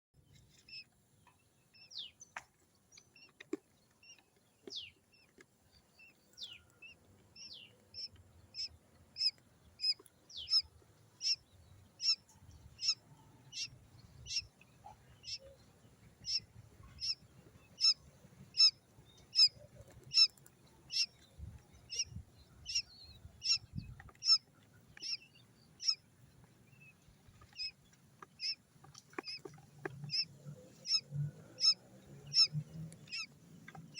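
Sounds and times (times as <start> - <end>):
quail chick peeping: 0.2 - 33.9.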